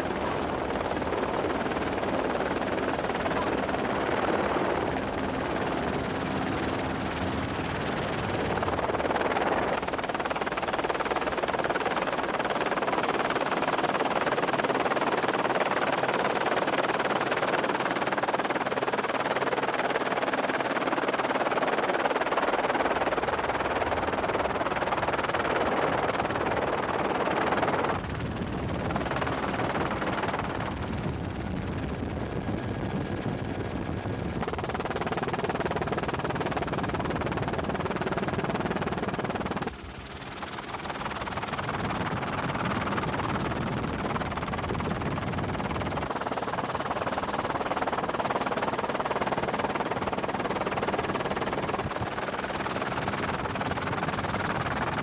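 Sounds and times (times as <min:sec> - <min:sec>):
helicopter noise from on board: 0:00.0 - 0:55.0.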